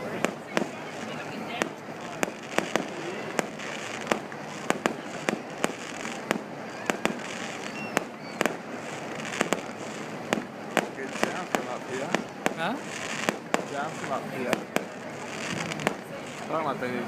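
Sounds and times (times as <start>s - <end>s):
fireworks bangs: 0.0s - 17.0s
steady background hiss: 0.0s - 17.0s.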